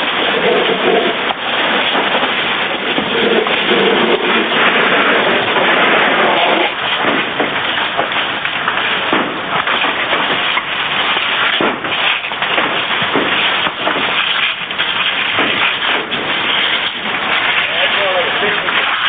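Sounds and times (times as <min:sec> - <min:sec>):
fire cracking and snapping: 0:00.0 - 0:19.0
fire hose spraying water: 0:00.0 - 0:19.0.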